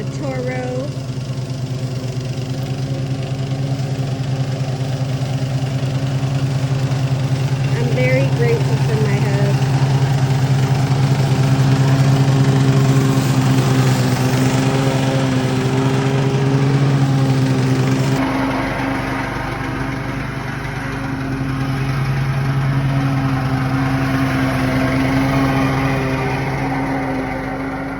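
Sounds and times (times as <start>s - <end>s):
push mower engine running: 0.0s - 27.9s.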